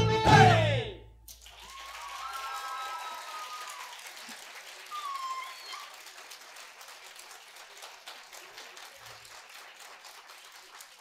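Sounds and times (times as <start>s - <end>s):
audience applauding: 1.3s - 11.0s.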